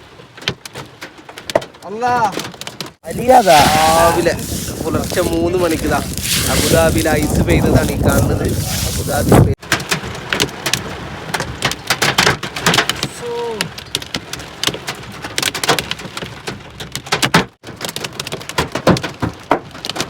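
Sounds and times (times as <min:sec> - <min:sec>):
hailstones pelting: 0:00.0 - 0:20.0
steady hiss of rain: 0:00.0 - 0:20.0.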